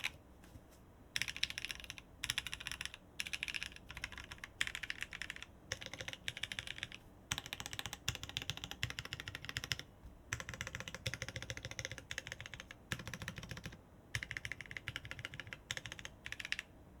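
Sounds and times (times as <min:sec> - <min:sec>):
fast even clicking: 0:01.2 - 0:16.7.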